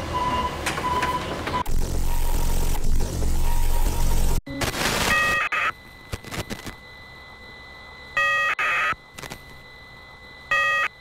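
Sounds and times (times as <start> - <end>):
faint steady high whine: 1.7 - 11.0.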